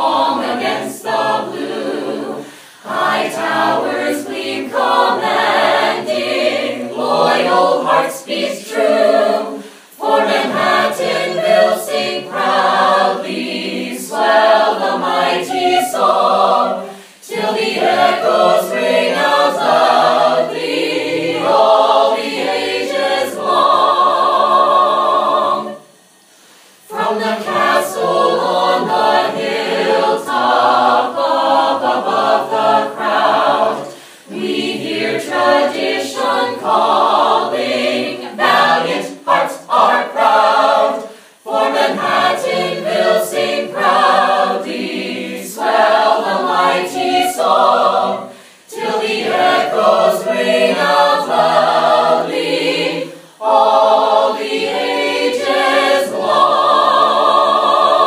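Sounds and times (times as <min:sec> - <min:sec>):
a cappella group singing: 0:00.0 - 0:58.0.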